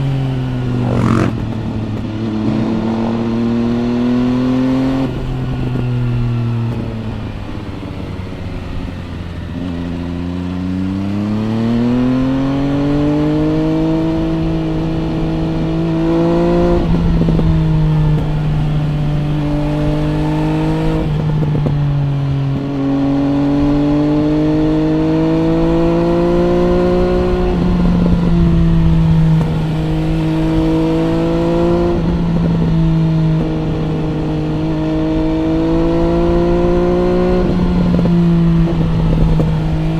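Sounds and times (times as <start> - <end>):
gear changes: 0.0 - 39.9
motorcycle engine revving: 0.0 - 39.9.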